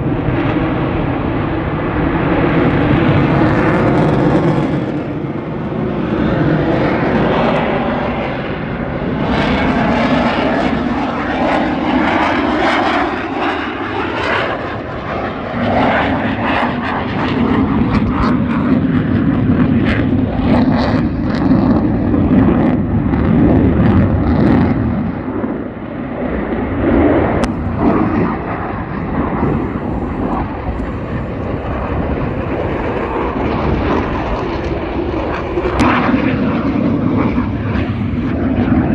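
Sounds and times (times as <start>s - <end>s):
airplane engine running: 0.0s - 38.9s.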